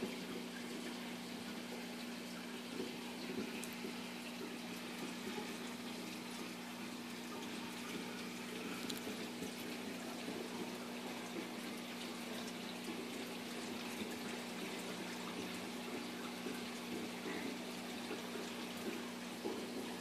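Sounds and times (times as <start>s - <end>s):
low pump hum: 0.0s - 20.0s.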